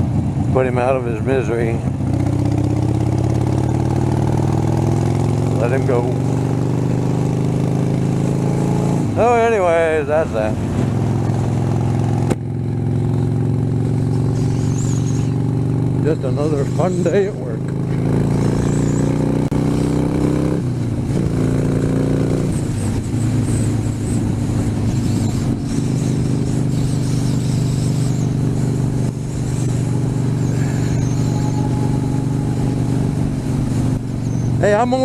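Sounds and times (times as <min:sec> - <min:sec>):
motorcycle engine at speed: 0:00.0 - 0:35.0.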